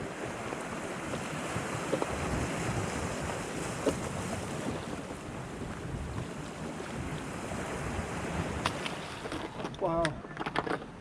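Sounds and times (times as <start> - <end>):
wind buffeting microphone: 0.0 - 9.7
sea waves: 0.0 - 11.0.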